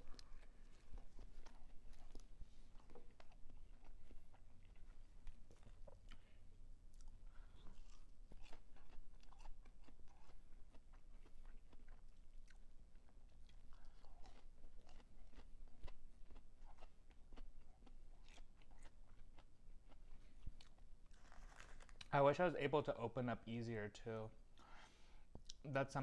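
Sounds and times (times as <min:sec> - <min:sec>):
person chewing crunchy food: 0:00.0 - 0:22.1.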